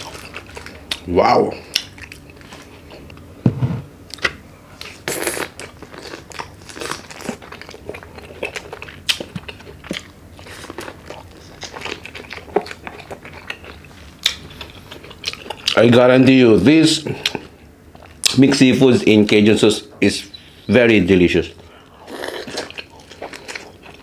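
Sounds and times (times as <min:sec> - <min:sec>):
man chewing food: 0:00.0 - 0:16.0, 0:17.0 - 0:18.4, 0:21.6 - 0:24.0.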